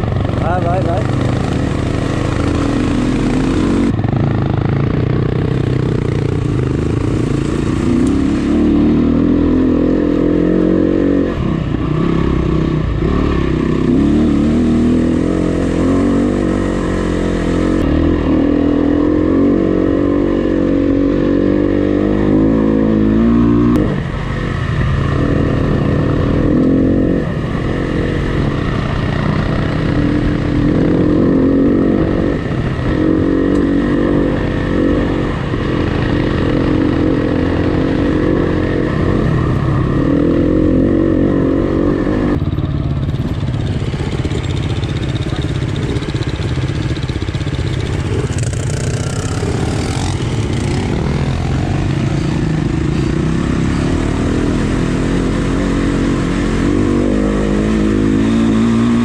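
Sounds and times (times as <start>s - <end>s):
dirt bike engine revving: 0.0s - 42.4s, 43.6s - 59.0s.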